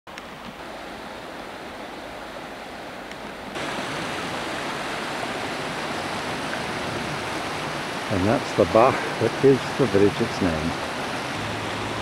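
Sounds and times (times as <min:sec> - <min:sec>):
rushing mountain brook: 0:00.1 - 0:12.0.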